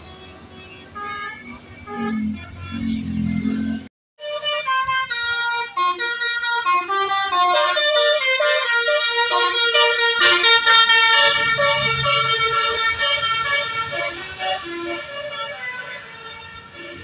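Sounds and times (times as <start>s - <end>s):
musical bus horn melody: 0.0s - 17.0s.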